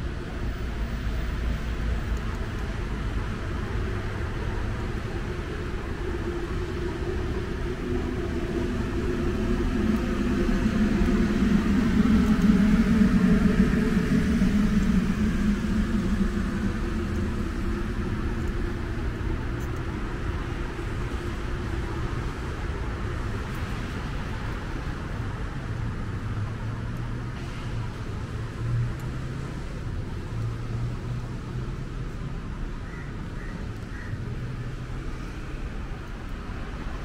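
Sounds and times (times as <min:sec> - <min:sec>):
low mechanical hum and rumble: 0:00.0 - 0:33.3
urban background noise: 0:00.0 - 0:37.0.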